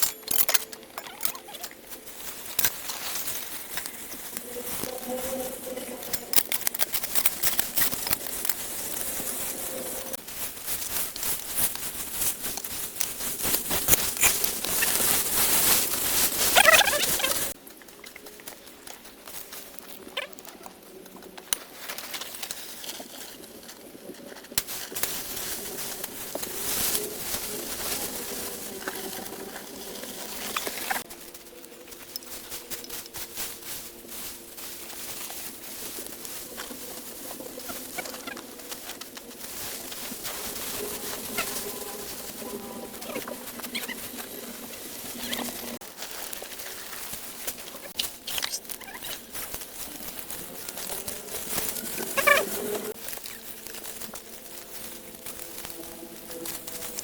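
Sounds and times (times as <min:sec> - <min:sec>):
doves cooing: 0:00.0 - 0:10.2, 0:13.4 - 0:24.4, 0:25.0 - 0:57.0.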